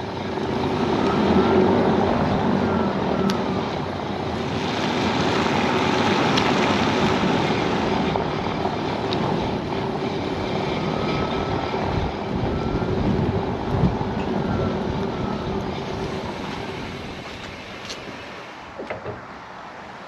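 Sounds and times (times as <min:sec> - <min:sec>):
road and tyre noise: 0:00.0 - 0:20.0.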